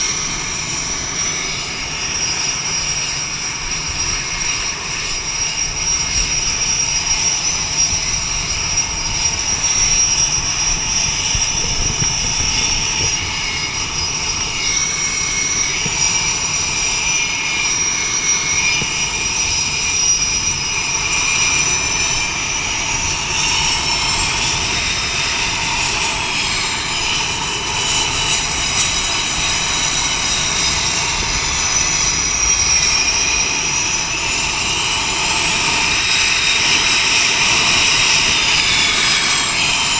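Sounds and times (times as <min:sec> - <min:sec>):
jet engine whine: 0:00.0 - 0:39.9
jet engines rumbling: 0:00.0 - 0:39.9.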